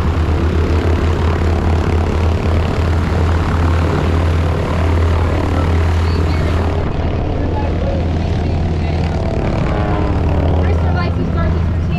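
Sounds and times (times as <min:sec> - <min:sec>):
propeller plane engine droning: 0:00.0 - 0:11.9.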